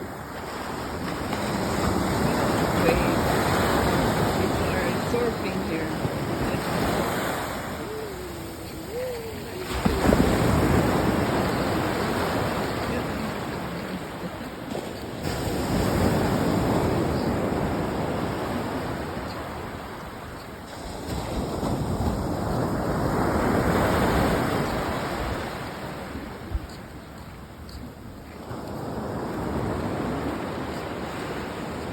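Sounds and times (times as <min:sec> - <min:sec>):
ocean waves breaking on shore: 0:00.0 - 0:31.9.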